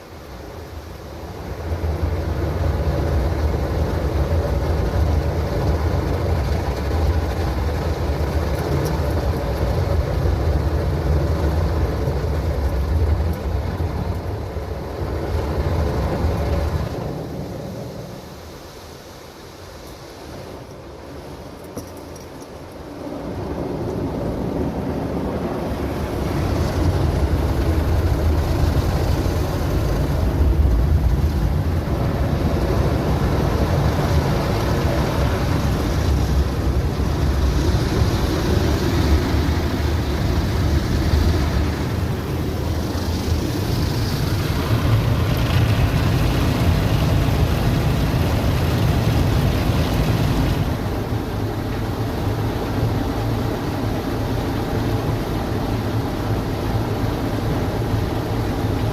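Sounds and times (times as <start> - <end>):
car wash machine rumble: 0.0 - 58.9
car wash swishing hiss: 0.0 - 58.9.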